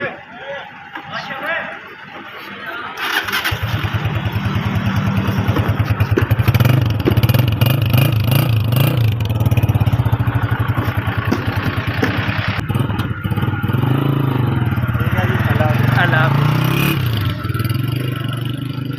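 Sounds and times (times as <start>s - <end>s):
motorcycle engine idling: 0.6s - 18.9s.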